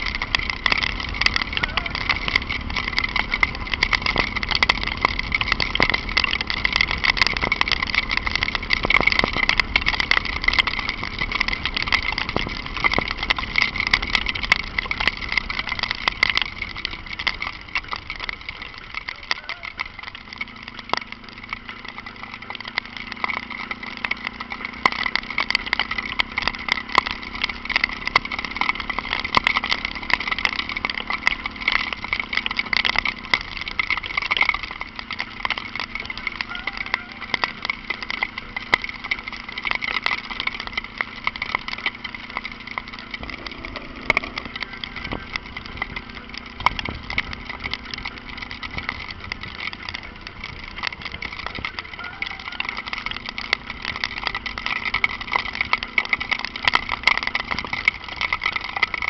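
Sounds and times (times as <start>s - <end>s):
car engine: 0.0s - 59.0s
raindrops striking car: 0.0s - 59.0s
tyres on wet road: 0.0s - 59.0s.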